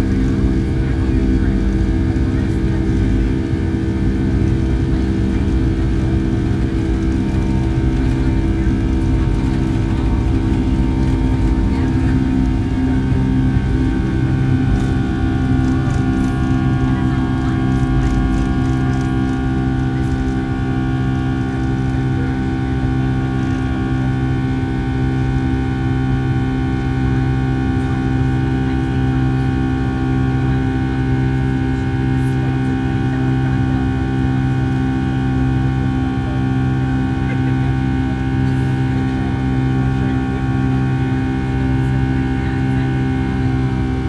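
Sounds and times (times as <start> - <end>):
jet cabin engine drone: 0.0 - 44.0.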